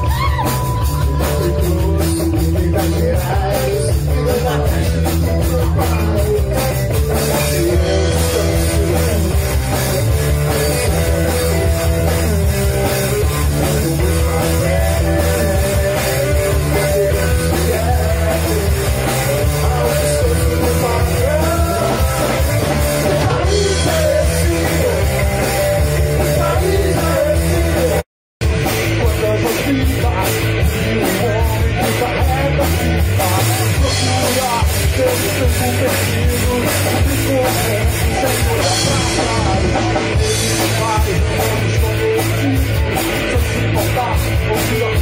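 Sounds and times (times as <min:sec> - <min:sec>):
bass guitar: 0:00.0 - 0:45.0
drum kit: 0:00.0 - 0:45.0
electric guitar: 0:00.0 - 0:45.0.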